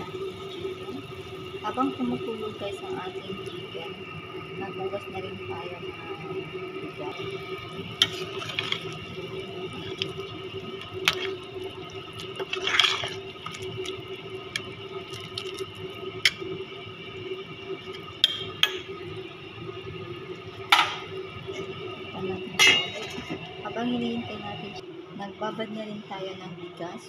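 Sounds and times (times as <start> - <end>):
pot boiling and bubbling: 0.0 - 27.0
steady hum: 0.0 - 27.0.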